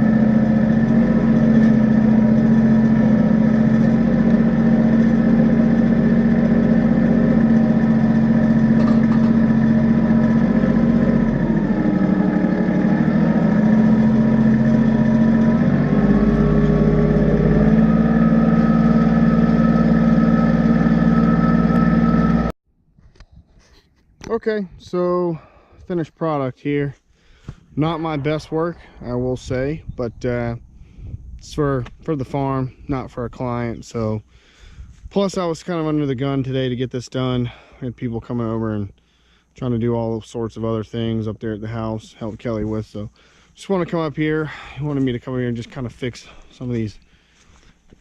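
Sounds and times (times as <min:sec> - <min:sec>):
tractor diesel engine running: 0:00.0 - 0:22.6, 0:25.9 - 0:36.5, 0:40.5 - 0:48.0.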